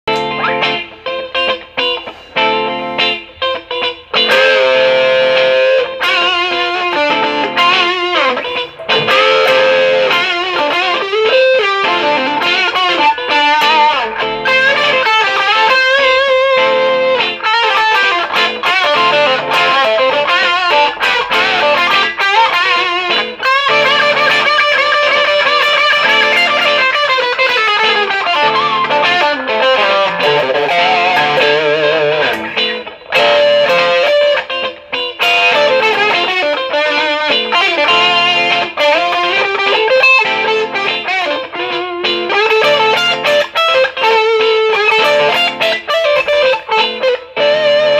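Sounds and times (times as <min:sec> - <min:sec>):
overdriven electric guitar lead: 0:00.0 - 0:47.9.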